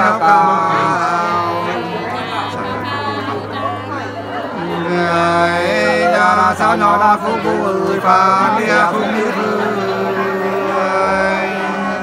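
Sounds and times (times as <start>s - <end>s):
person singing folk song: 0.0s - 12.0s.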